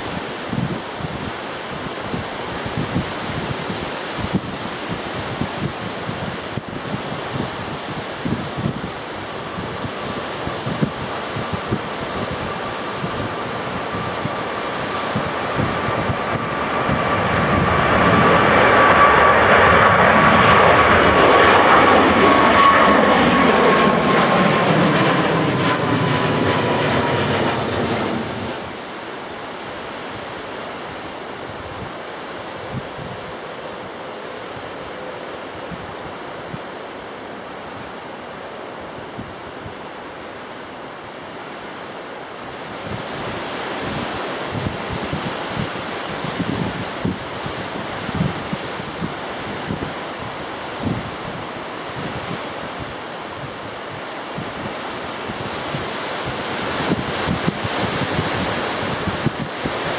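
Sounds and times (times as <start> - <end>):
wind buffeting microphone: 0.0 - 40.2, 42.4 - 59.9
airliner engines whining: 0.0 - 59.9.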